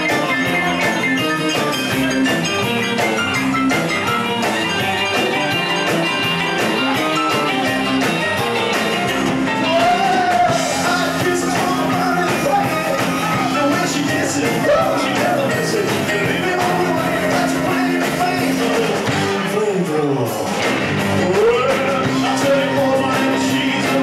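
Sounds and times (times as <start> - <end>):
drum kit: 0.0 - 24.0
electric bass: 0.0 - 24.0
electric guitars: 0.0 - 24.0.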